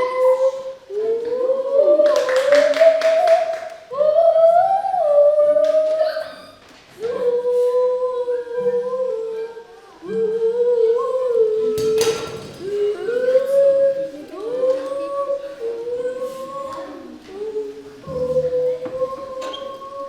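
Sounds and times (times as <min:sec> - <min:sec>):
children singing: 0:00.0 - 0:20.0.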